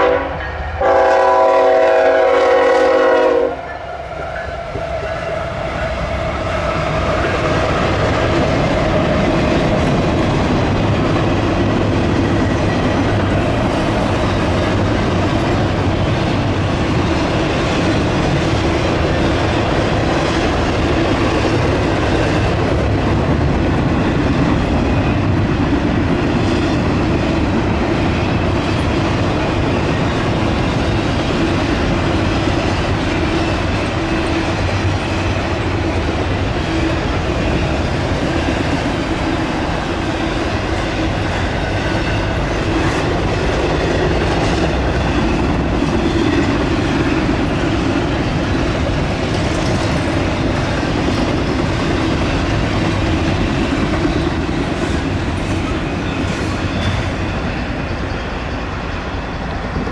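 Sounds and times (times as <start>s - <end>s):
freight train rolling past: 0.0s - 59.9s
steel wheels on rails: 0.0s - 59.9s.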